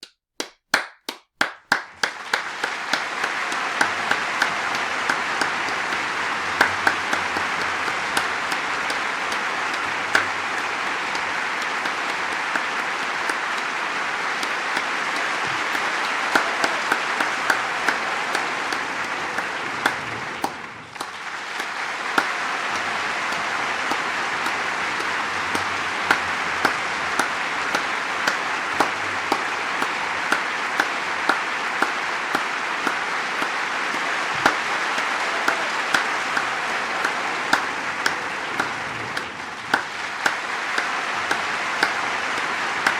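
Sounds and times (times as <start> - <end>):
crowd applauding: 0.4 - 42.9.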